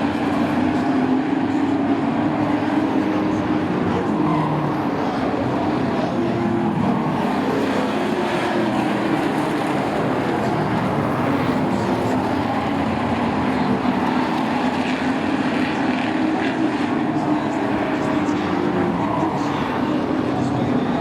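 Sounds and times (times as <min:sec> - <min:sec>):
race truck engines racing: 0:00.0 - 0:21.0.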